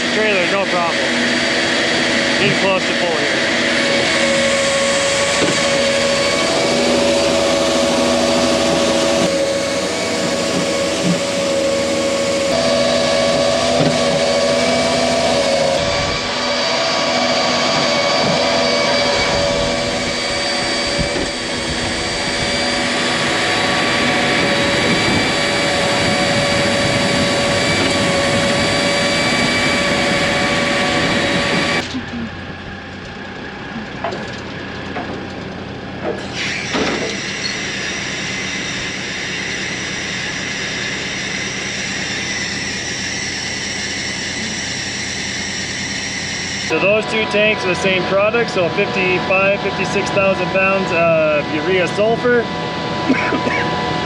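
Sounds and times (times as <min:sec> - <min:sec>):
engine hum: 0:00.0 - 0:54.0
loading machinery running: 0:00.0 - 0:54.0.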